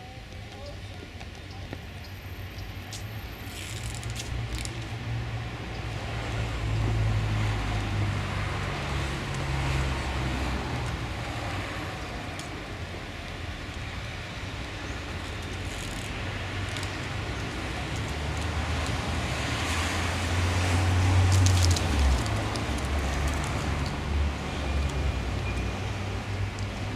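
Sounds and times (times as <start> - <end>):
vehicle engine and road drone: 0.2 - 26.9.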